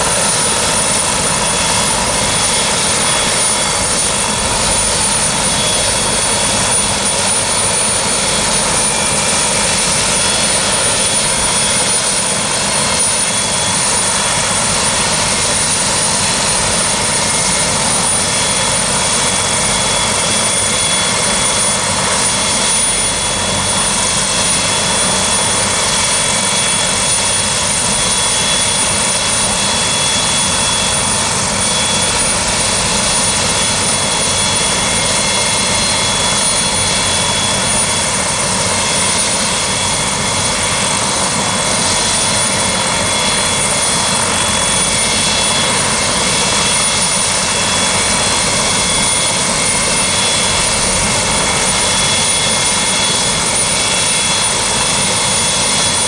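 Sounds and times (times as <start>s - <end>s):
helicopter engine and rotor: 0.0s - 56.0s
high-pitched turbine whine: 0.0s - 56.0s.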